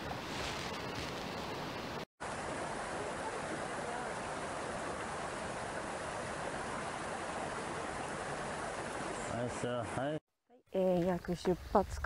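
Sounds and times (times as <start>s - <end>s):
stream running over rocks: 0.1s - 10.2s.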